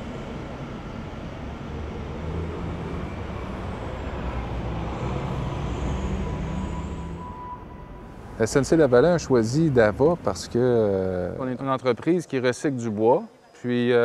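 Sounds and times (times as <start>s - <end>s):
bus and cars driving past: 0.0s - 13.2s.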